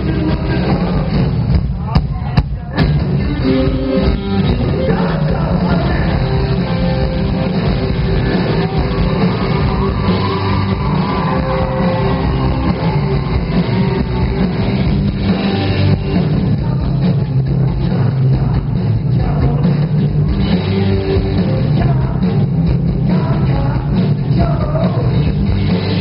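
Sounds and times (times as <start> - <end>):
live rock band with electric guitars: 0.0 - 26.0.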